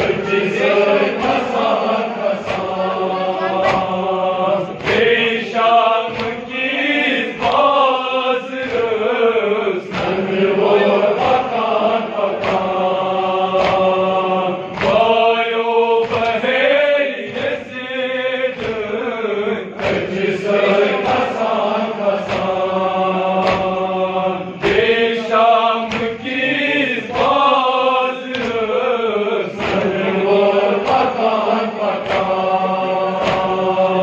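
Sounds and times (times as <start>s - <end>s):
men chanting in unison: 0.0s - 34.0s.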